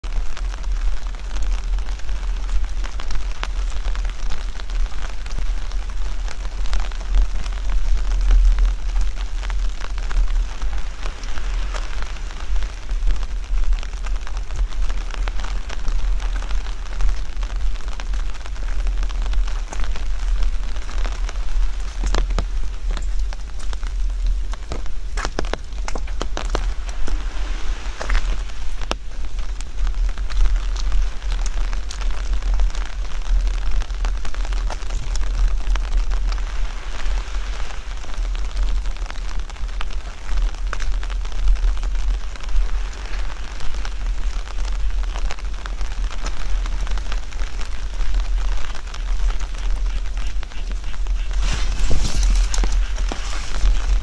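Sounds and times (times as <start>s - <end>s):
low rumble: 0.0s - 54.0s
steady rain falling: 0.0s - 54.0s.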